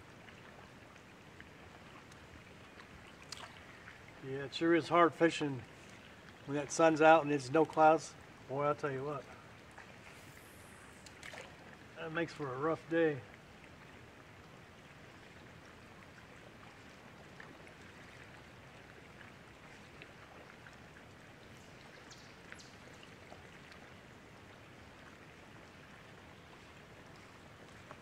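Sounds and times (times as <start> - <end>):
water lapping against boat hull: 0.0 - 28.0.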